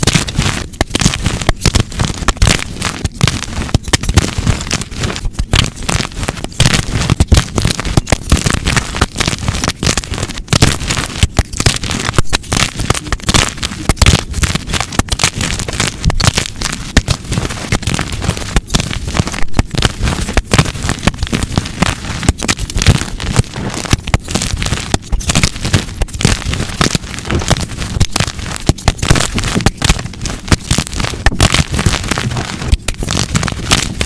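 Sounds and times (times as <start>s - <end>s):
chalk blocks crunching and snapping: 0.0s - 34.0s.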